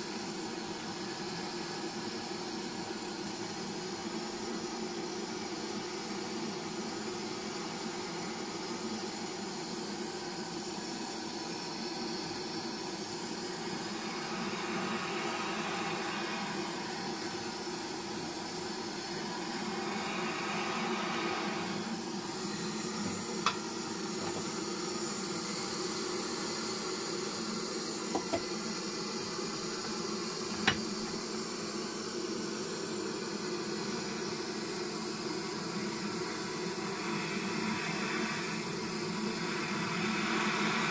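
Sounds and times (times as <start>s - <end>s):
blowtorch hissing: 0.0s - 40.9s.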